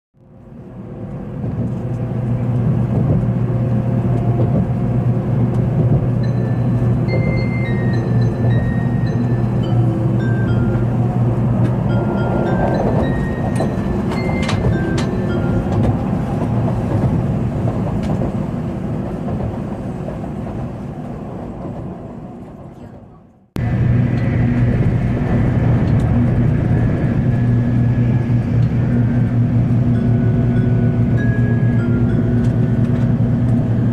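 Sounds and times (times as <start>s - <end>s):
train rumble inside passenger car: 0.2s - 33.9s.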